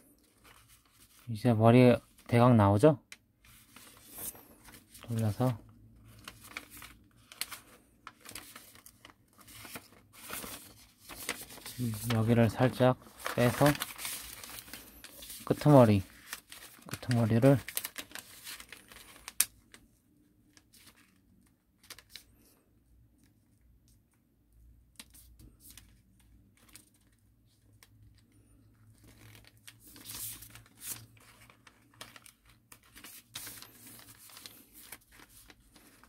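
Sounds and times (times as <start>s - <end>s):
paper crackle: 0.0s - 1.4s, 3.4s - 22.5s, 25.0s - 36.0s
paper crinkling and rustling: 0.0s - 2.5s, 3.1s - 22.5s, 24.9s - 36.0s.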